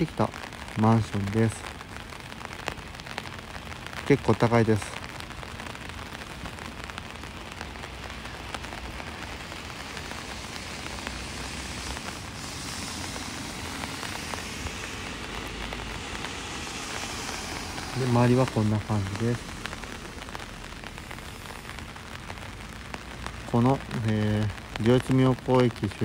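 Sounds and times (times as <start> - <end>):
light rain on wet paving: 0.0 - 26.0.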